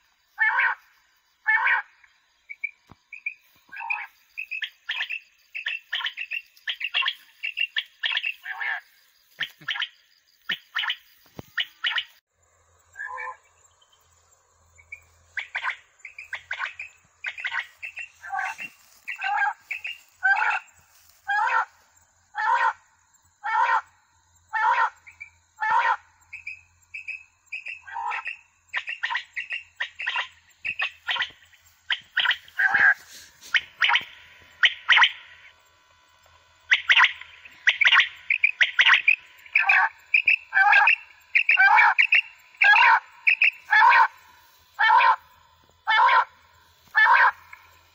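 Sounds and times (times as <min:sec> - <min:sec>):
recorded quail calls: 0:00.0 - 0:12.2, 0:13.0 - 0:13.5, 0:14.9 - 0:22.8, 0:23.4 - 0:35.6, 0:36.6 - 0:47.8.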